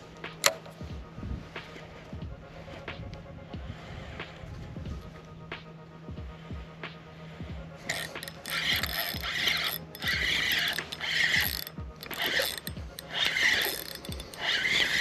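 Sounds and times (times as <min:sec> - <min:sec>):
fishing reel gears whirring: 0:00.0 - 0:05.3, 0:06.2 - 0:15.0.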